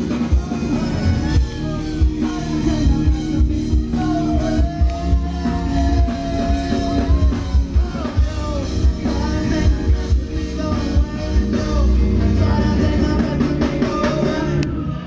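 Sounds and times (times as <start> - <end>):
drums: 0.0 - 15.0
guitars: 0.0 - 15.0
person singing: 0.0 - 15.0.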